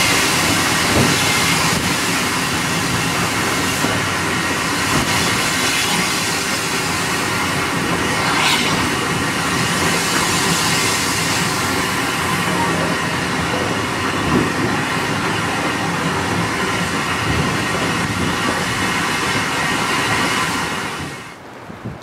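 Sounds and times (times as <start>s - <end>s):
train wheels rumbling on rail: 0.0s - 21.4s.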